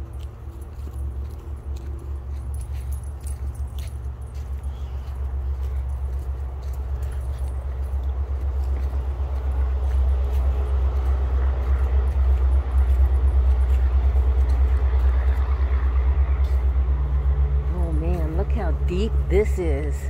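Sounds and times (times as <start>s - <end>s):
low fluttering rumble: 0.0s - 20.0s.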